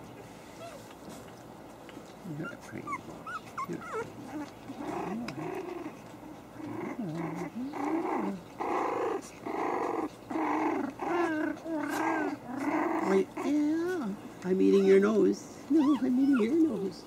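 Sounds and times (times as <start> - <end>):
puppy play growls: 0.4 - 17.0
puppies squeaking: 2.2 - 17.0.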